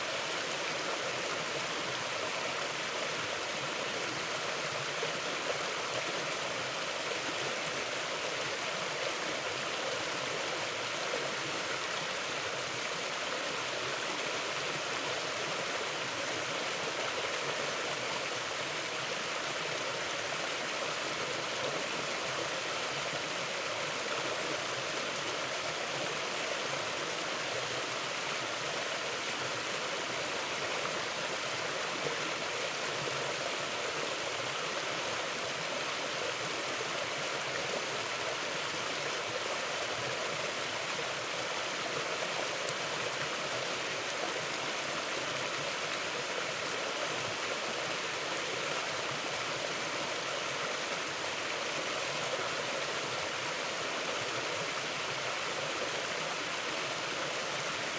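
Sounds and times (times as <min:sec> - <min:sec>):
river flowing: 0:00.0 - 0:57.9.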